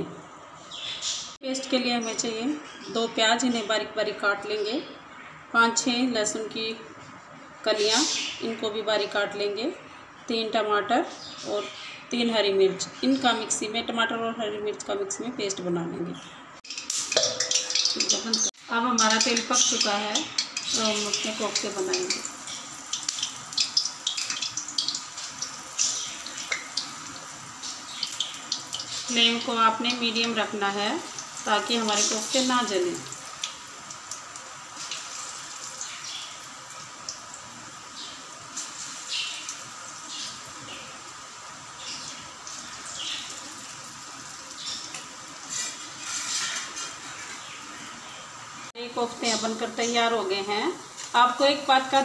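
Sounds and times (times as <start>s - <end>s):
batter deep-frying in hot oil: 0.0s - 16.0s, 16.6s - 52.0s.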